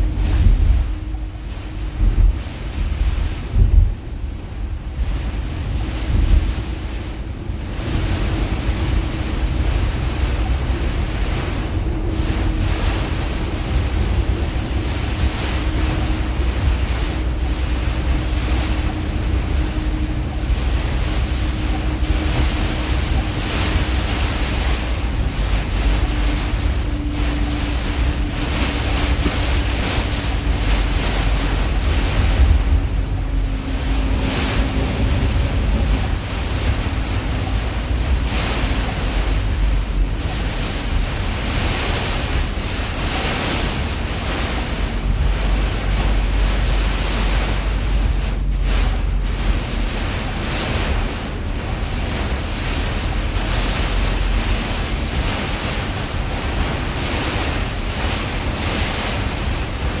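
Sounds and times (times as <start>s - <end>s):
heavy rain pouring: 0.0s - 60.0s
wind buffeting microphone: 0.0s - 60.0s.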